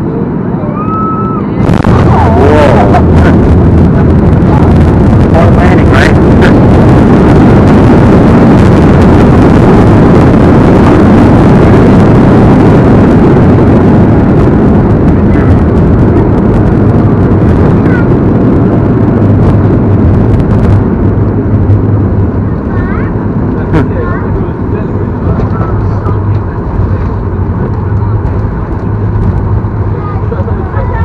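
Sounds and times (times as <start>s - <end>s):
jet engines in reverse thrust: 0.0s - 31.0s
wheels rumbling on runway: 0.0s - 31.0s.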